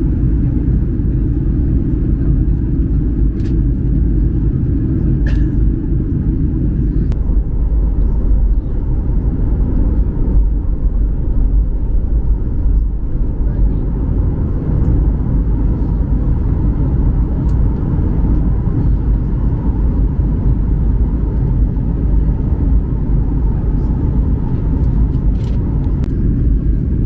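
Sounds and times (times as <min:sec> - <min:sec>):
airplane cabin engine rumble: 0:00.0 - 0:27.0.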